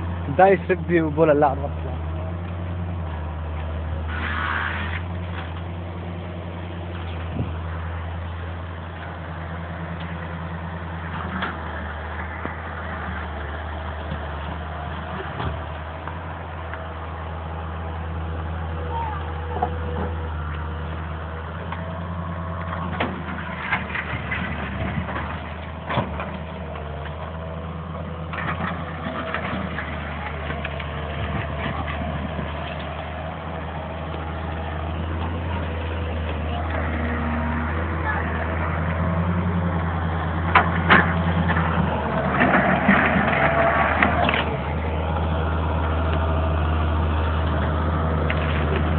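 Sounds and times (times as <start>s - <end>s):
diesel engine humming: 0.0s - 48.9s.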